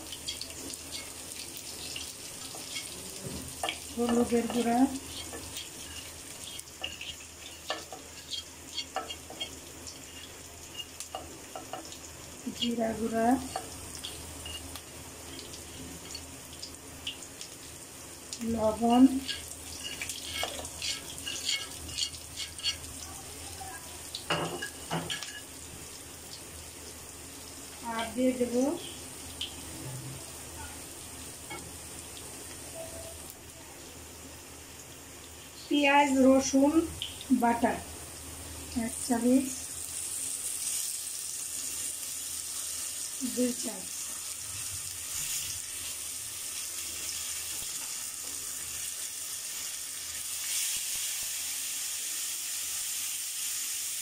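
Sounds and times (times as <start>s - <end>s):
spices sizzling in hot oil: 0.0s - 54.0s.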